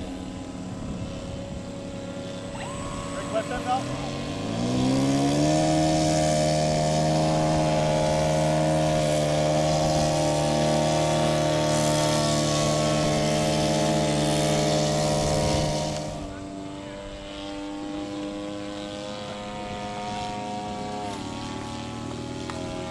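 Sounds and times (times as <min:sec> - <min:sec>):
model airplane engine revving: 0:00.0 - 0:22.9.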